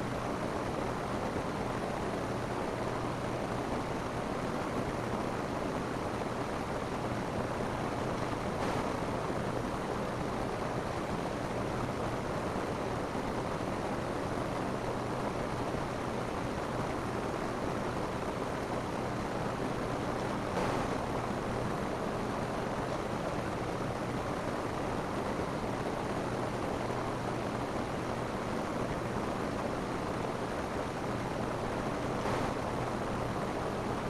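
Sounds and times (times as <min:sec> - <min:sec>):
rain falling on a roof: 0:00.0 - 0:34.0.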